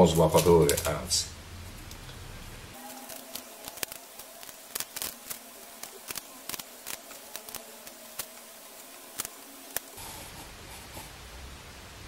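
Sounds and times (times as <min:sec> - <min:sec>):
dry cigar crackling: 0:00.0 - 0:11.4
faint steady hum: 0:00.0 - 0:12.0.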